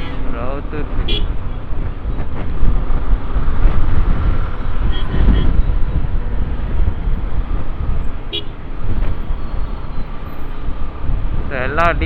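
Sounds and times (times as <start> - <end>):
road traffic: 0.0 - 12.0
wind rushing over microphone: 0.0 - 12.0.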